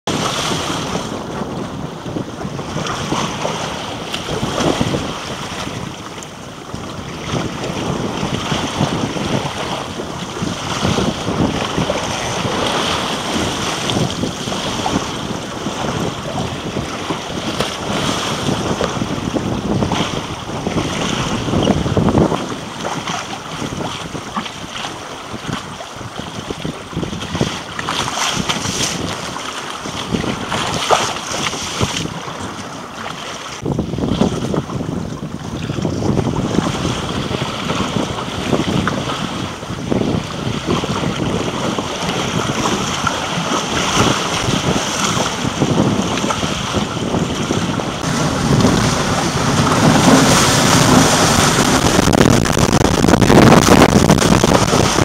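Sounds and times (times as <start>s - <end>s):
water rushing against hull: 0.0s - 55.0s
wind buffeting microphone: 0.1s - 55.0s.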